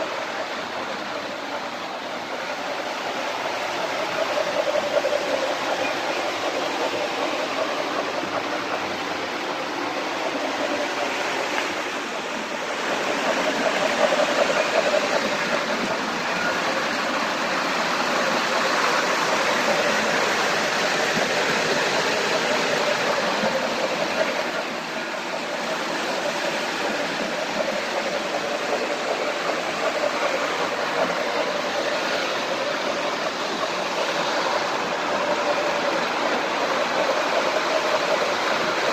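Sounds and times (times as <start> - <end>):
model trains rolling on metal track: 0.0 - 38.9.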